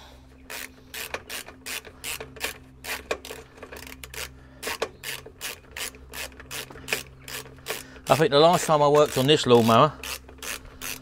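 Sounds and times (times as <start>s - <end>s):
hand ratchet clicking: 0.5s - 11.0s.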